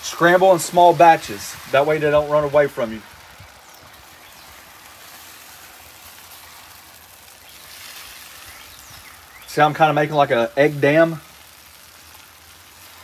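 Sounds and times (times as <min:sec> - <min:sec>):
eggs sizzling on griddle: 0:00.0 - 0:13.0.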